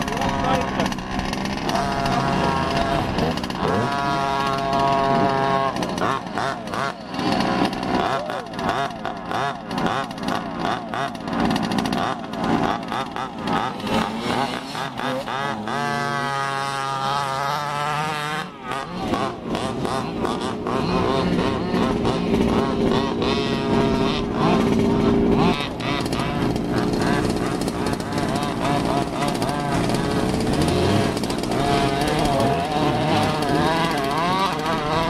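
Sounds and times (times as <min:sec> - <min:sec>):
rc car engines buzzing and revving: 0:00.0 - 0:35.0.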